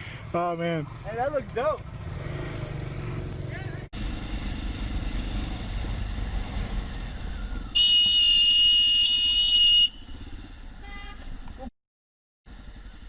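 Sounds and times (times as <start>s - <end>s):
vehicle engine and road noise: 0.0s - 11.7s, 12.5s - 13.0s.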